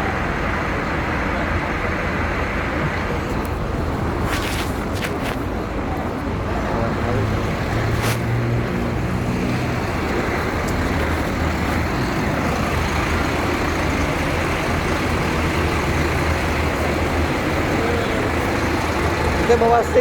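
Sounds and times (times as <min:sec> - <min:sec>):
bus engine humming: 0:00.0 - 0:20.0
road traffic noise: 0:00.0 - 0:20.0.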